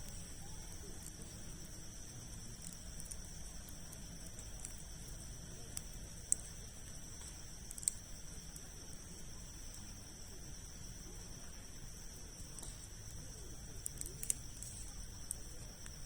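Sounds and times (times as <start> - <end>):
campfire crackling and popping: 0.0 - 10.0, 12.2 - 16.0
insects droning: 0.0 - 16.0.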